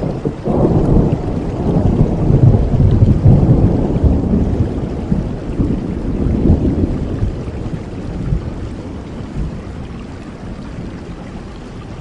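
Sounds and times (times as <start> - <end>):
rolling thunder: 0.0 - 11.1
rain hissing: 0.0 - 12.0.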